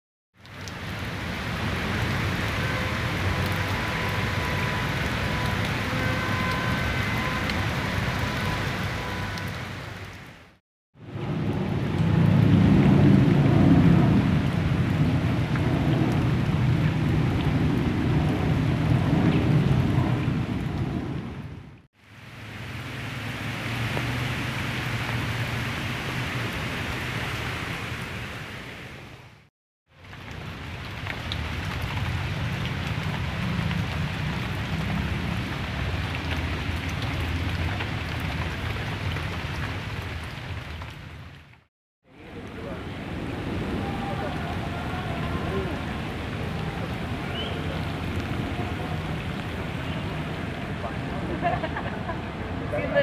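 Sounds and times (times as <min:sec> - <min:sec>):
heavy rain on paving and foliage: 0:00.4 - 0:53.0.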